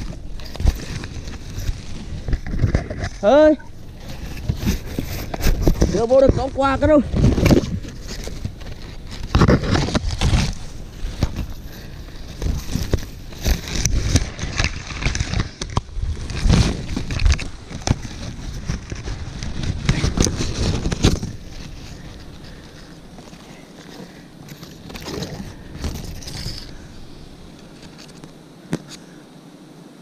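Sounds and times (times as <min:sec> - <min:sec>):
rustling and crackling through brush: 0:00.0 - 0:30.0.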